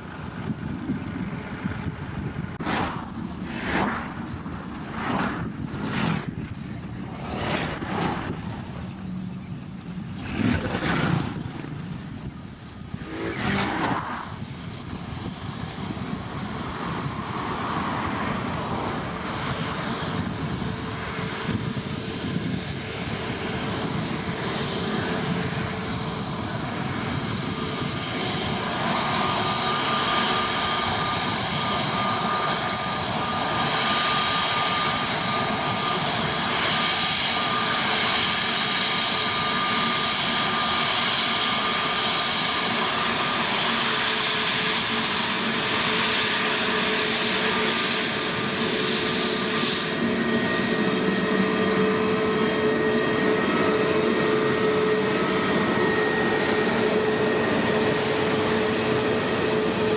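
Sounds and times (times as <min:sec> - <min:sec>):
jet engines whining: 0:00.0 - 0:59.9
wind buffeting microphone: 0:00.0 - 0:59.9.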